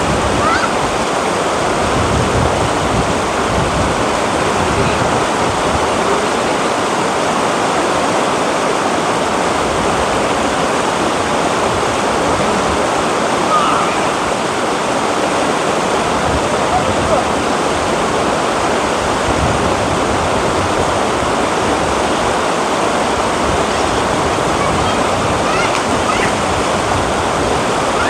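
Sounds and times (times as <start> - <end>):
river rapids rushing: 0.0 - 28.0.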